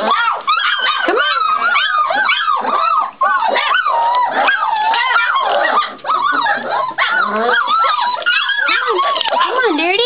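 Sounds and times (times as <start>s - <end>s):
puppies whining and yipping: 0.0s - 10.0s.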